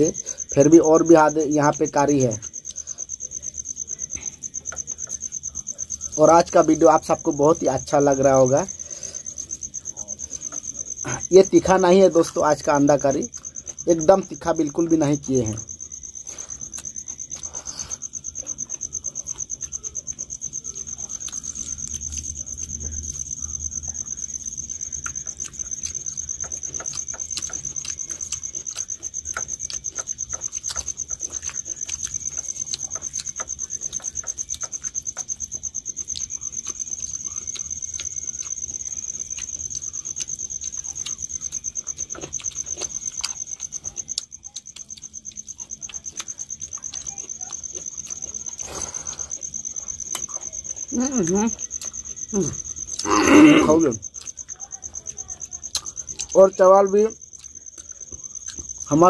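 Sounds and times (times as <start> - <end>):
high-pitched insect trill: 0.0 - 59.0
wet clicks of people eating: 0.0 - 59.0.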